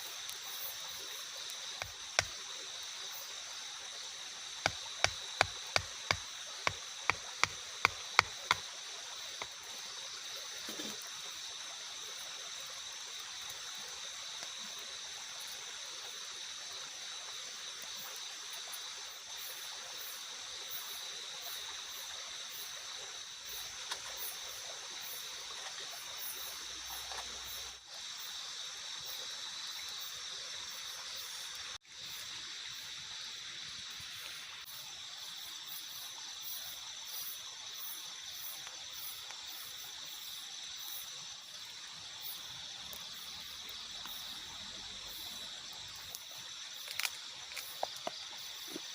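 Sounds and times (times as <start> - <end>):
high insect drone: 0.0 - 48.9
rushing water: 0.0 - 48.9.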